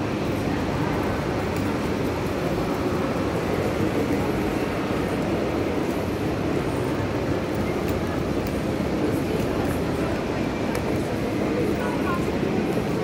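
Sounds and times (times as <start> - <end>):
indistinct crowd noise: 0.0 - 13.0.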